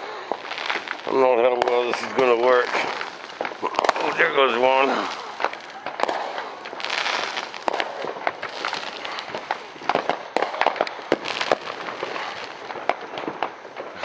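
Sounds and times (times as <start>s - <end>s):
firework cracks and bangs: 0.0s - 14.0s
fireworks crackle and hiss: 0.0s - 14.0s.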